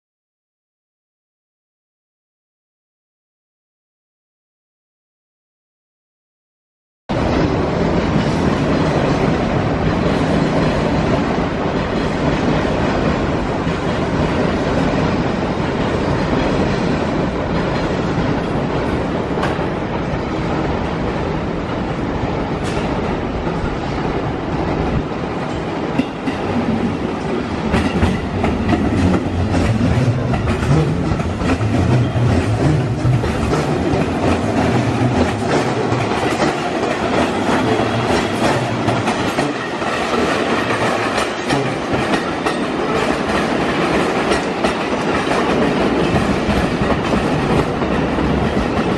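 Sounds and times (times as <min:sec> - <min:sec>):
electric train rumbling: 0:07.1 - 0:48.9.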